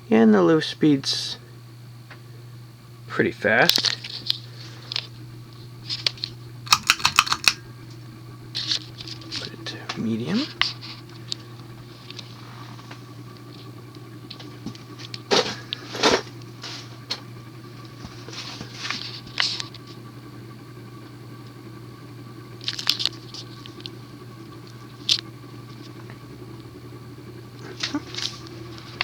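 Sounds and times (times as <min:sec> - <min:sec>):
ceiling fan motor humming: 0:00.0 - 0:29.0.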